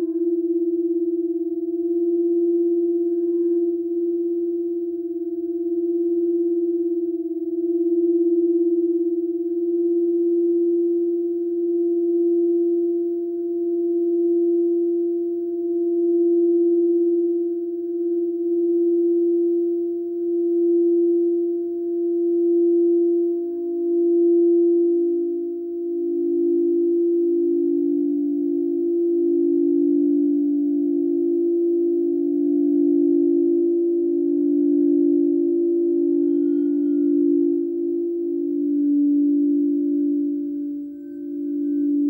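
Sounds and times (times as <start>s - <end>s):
crystal singing bowl tone: 0.0s - 42.0s.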